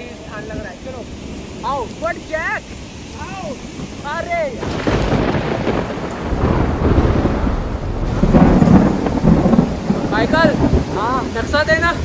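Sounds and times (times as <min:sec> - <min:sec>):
steady rain: 0:00.0 - 0:12.0
thunder rumbling: 0:00.0 - 0:12.0.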